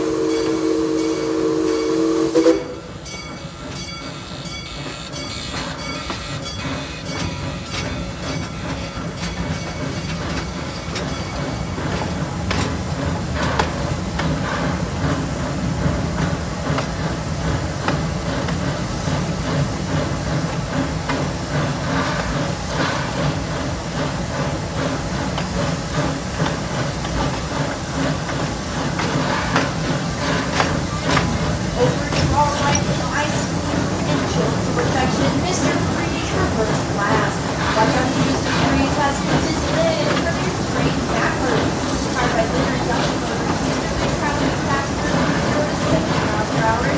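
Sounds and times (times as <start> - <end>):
steam hiss: 0.0 - 46.9
steam train rumble: 0.0 - 46.9
wheels clicking and knocking: 7.1 - 46.9.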